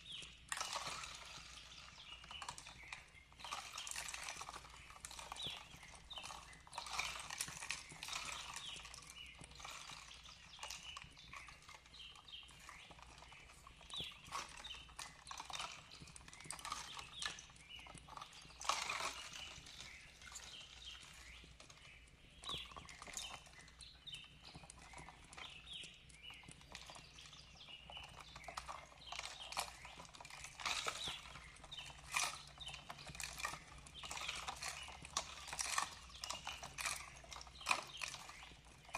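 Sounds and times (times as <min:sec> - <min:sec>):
birds chirping: 0:00.0 - 0:38.9
fireplace crackling: 0:00.0 - 0:38.9.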